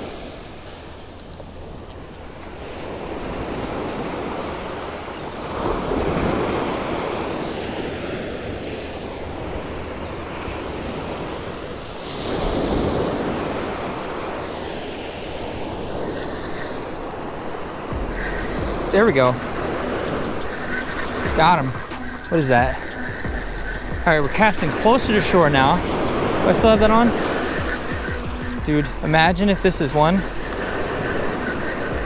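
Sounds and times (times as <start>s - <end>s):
ocean surf washing on beach: 0.0s - 32.0s.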